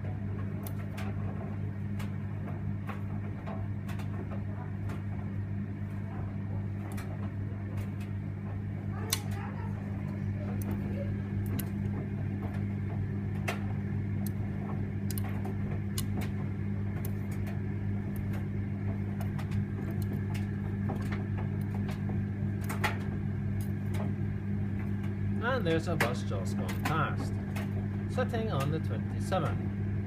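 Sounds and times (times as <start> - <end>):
tumble dryer motor hum: 0.0 - 30.0.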